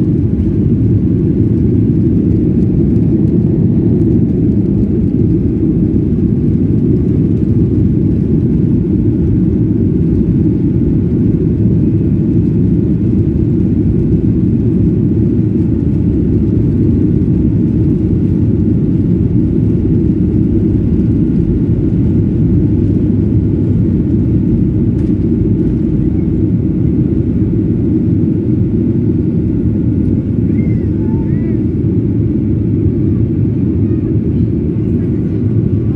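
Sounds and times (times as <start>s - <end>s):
jet engines low rumble: 0.0s - 35.9s.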